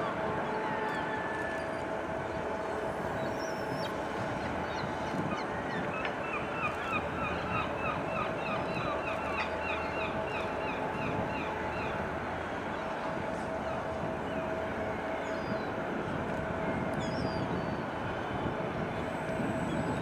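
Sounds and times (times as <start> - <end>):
faint hum of river traffic: 0.0 - 20.0.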